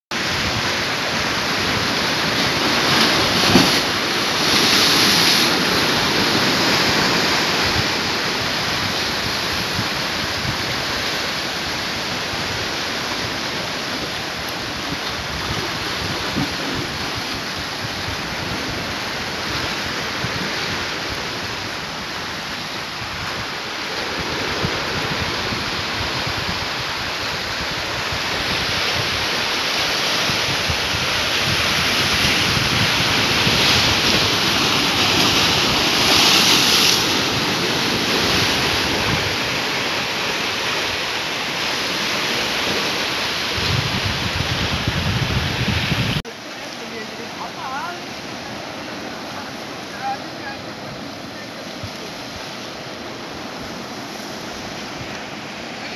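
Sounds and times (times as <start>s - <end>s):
wind buffeting microphone: 0.1s - 46.3s
sea surf breaking on rocks: 0.1s - 55.9s.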